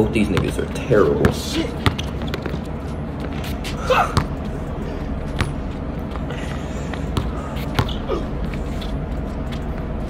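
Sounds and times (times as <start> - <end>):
basketball bouncing: 0.2 - 4.6, 5.3 - 6.2, 6.9 - 9.8.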